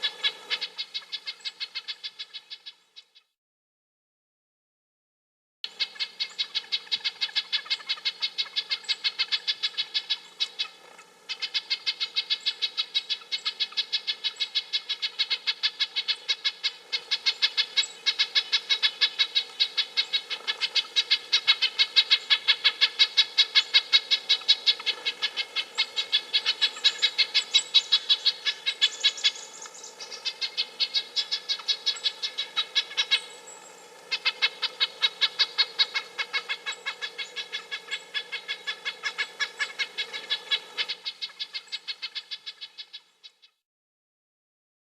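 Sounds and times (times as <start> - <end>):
nuthatch calling: 0.0 - 3.2, 5.7 - 43.6.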